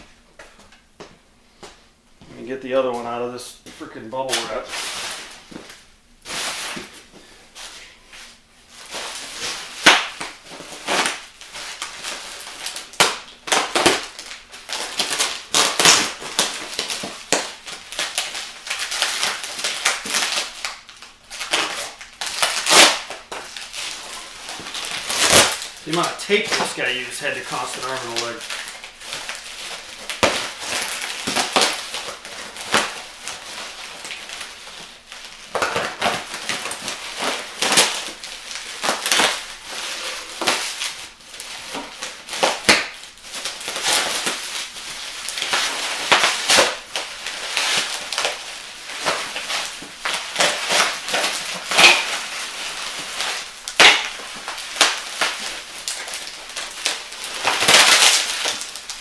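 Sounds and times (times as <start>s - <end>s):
bubble wrap crinkling and crackling: 2.3s - 59.0s.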